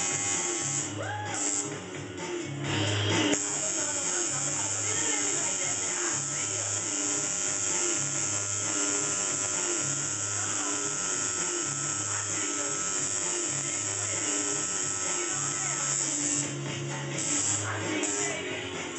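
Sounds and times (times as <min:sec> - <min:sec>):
tattoo machine buzzing: 0:00.0 - 0:01.9, 0:03.2 - 0:18.4
background music: 0:00.0 - 0:18.9.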